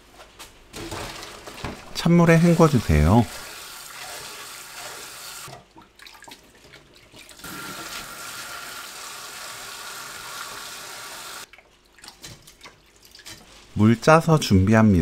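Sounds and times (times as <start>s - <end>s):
hands rinsing mushrooms in water: 1.1s - 14.3s.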